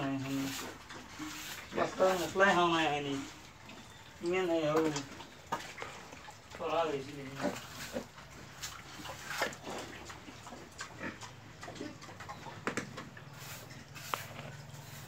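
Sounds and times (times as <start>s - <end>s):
pigs grunting and snuffling: 0.0s - 15.0s.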